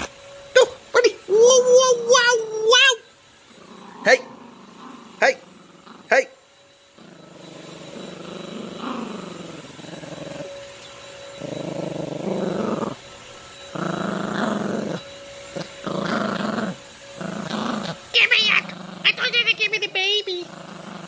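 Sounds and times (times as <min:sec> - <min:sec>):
puppy play-growling: 0:03.4 - 0:21.0.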